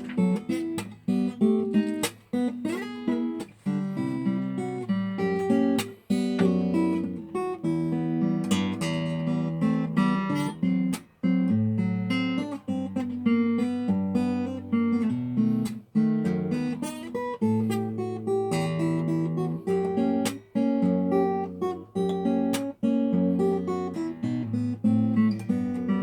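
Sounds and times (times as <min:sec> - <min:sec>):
acoustic guitar melody: 0:00.0 - 0:26.0.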